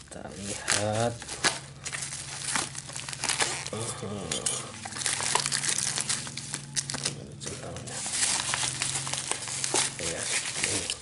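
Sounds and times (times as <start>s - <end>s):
plastic wrapping crinkling: 0.0s - 11.0s
steady low hum: 0.0s - 11.0s.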